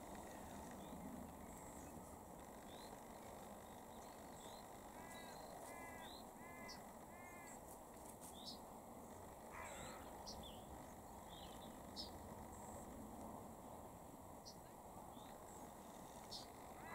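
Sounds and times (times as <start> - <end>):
birds calling: 0.0 - 13.0, 13.8 - 16.9.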